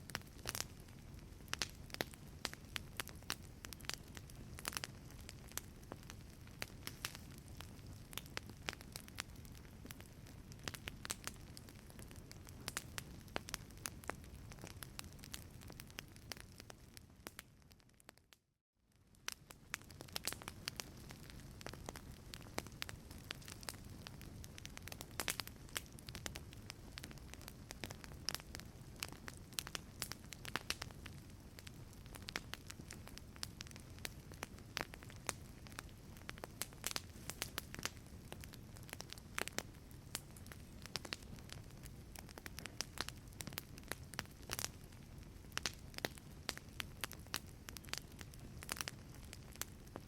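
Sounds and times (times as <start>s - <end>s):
wood fire crackling: 0.0s - 18.3s, 18.9s - 50.0s.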